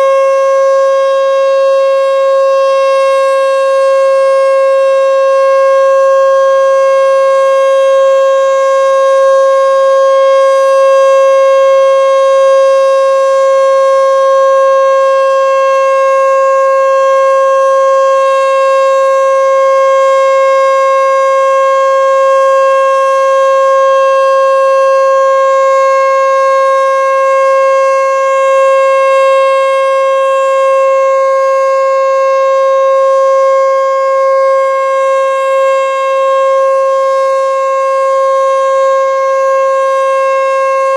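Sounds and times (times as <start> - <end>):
warning siren steady tone: 0.0 - 40.9.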